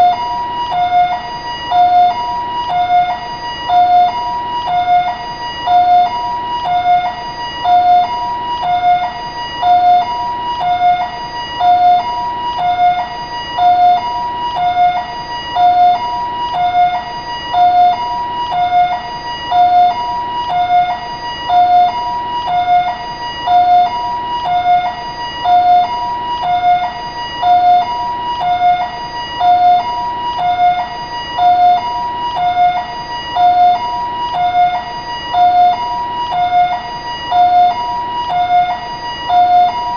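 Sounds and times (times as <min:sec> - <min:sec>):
ambulance siren two-tone: 0:00.0 - 0:39.9.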